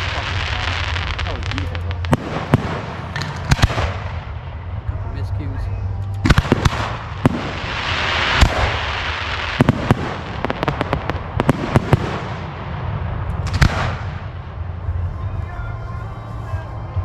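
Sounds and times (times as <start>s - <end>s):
fireworks crackling hiss: 0.0s - 5.4s, 6.1s - 17.0s
fireworks bangs: 0.0s - 17.0s.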